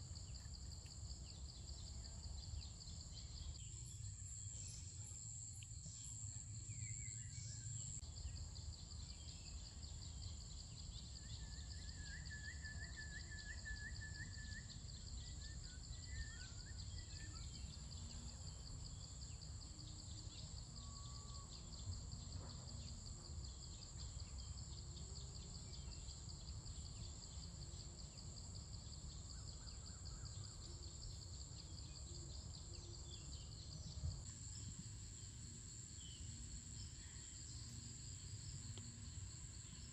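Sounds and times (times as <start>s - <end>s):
crickets and insects chorus: 0.0s - 39.9s.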